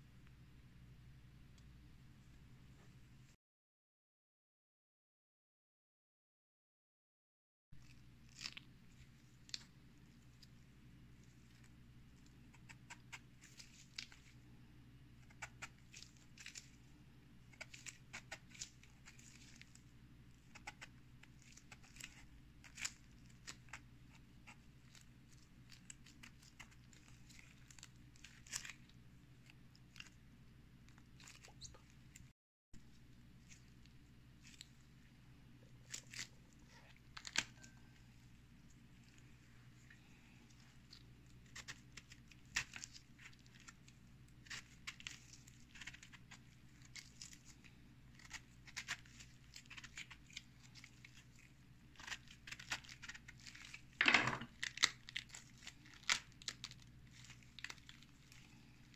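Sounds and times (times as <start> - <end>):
faint low hum: 0.0 - 3.4, 7.8 - 58.9.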